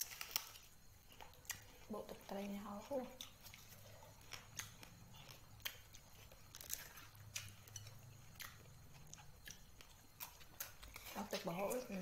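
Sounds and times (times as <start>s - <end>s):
chewing: 0.0s - 12.0s
faint low hum: 0.0s - 12.0s.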